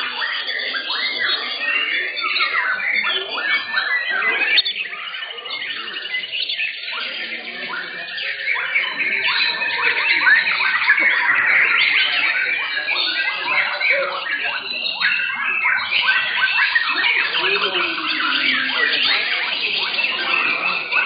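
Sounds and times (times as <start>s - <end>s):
songbirds whistling and chirping: 0.0s - 21.0s.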